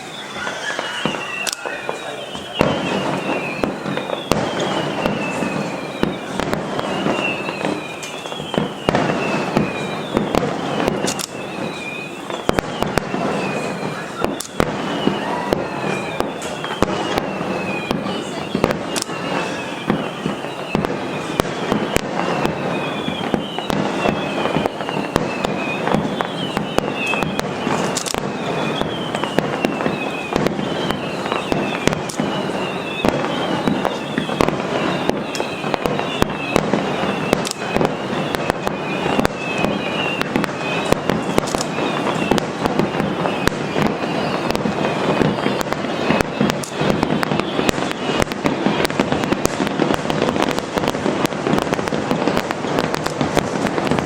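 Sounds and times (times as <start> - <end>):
falling firework whistles: 0.0 - 54.0
firework shell bursts and bangs: 0.0 - 54.0.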